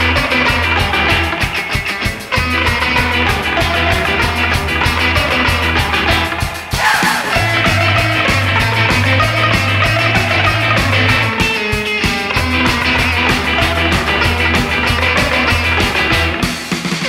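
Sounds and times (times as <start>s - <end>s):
surf rock band playing: 0.0s - 17.0s.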